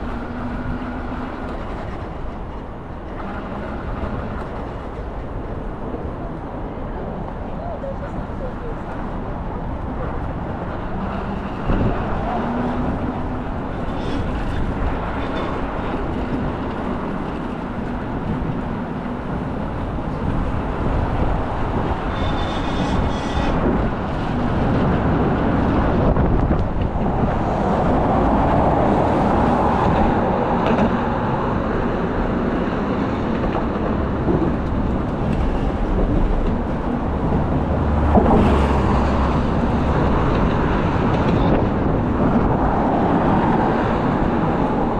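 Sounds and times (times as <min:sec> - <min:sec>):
passing road traffic: 0:00.0 - 0:44.9.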